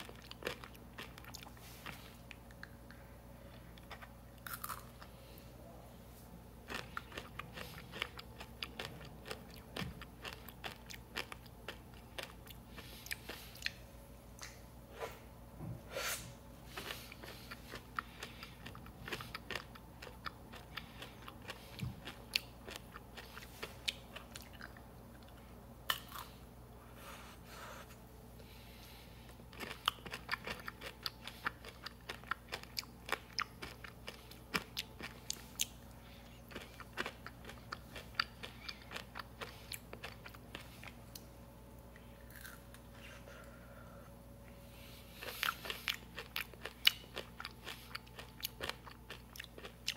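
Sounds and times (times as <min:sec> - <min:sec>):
chewing crunchy candy: 0:00.0 - 0:05.2, 0:06.6 - 0:13.8, 0:16.7 - 0:26.4, 0:29.3 - 0:41.2, 0:41.9 - 0:43.1, 0:45.0 - 0:49.9.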